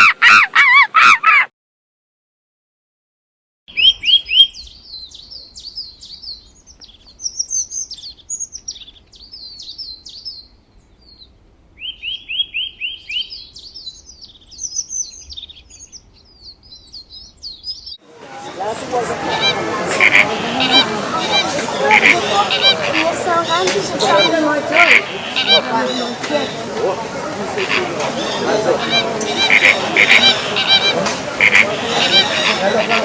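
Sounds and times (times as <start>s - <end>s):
songbirds chirping and twittering: 3.7s - 33.0s.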